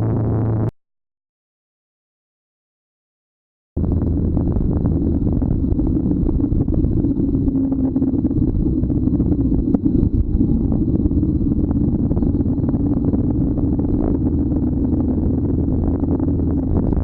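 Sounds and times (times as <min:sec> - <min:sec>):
motorcycle engine rumble: 0:00.0 - 0:00.7, 0:03.8 - 0:17.0
wind noise on microphone: 0:00.0 - 0:00.7, 0:03.8 - 0:17.0.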